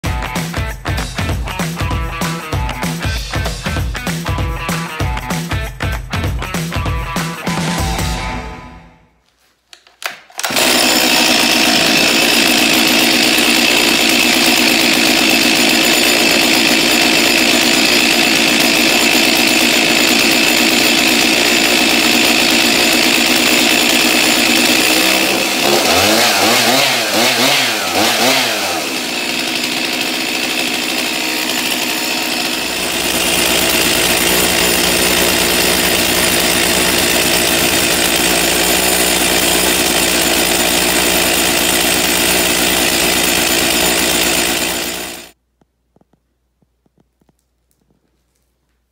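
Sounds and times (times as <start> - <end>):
chainsaw engine running: 0.0 - 8.2, 10.4 - 45.4.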